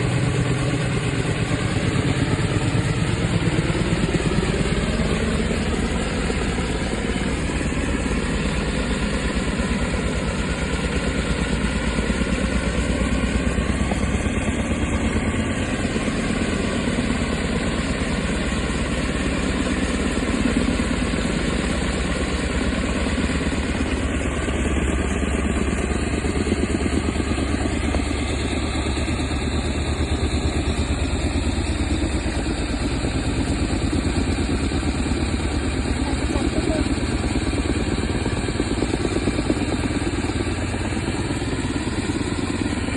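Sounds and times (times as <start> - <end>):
helicopter rotor beat: 0.0 - 42.9.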